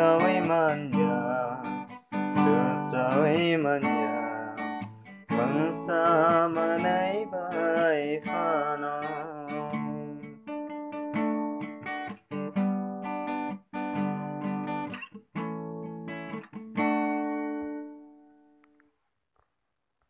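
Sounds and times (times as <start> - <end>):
acoustic guitar strumming: 0.0 - 18.7.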